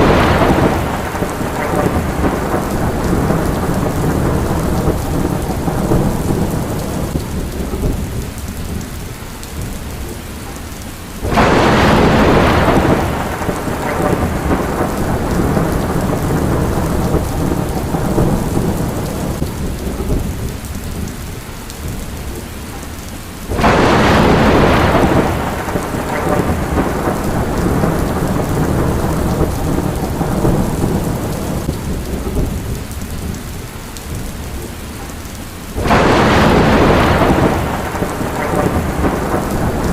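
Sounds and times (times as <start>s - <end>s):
loud thunder claps: 0.0s - 9.0s, 11.2s - 22.4s, 23.5s - 34.7s, 35.7s - 39.9s
low rumbling thunder: 0.0s - 10.2s, 11.2s - 22.5s, 23.4s - 35.1s, 35.7s - 39.9s
steady rain: 0.0s - 39.9s.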